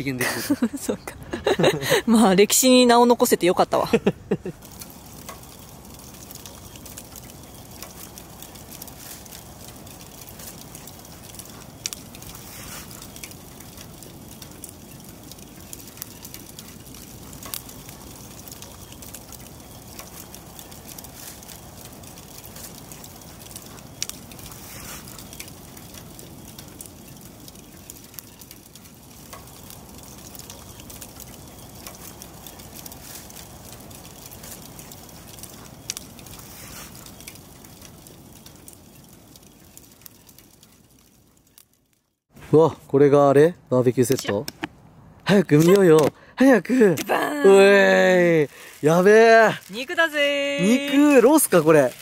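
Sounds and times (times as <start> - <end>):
charcoal fire crackling and popping: 0.0 - 52.0.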